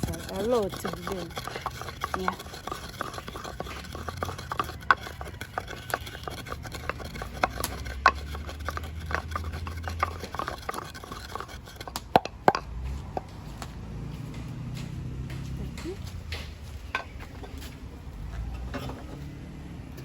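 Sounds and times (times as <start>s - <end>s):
kitchen utensils knocking and clicking: 0.0s - 13.4s, 15.3s - 19.2s.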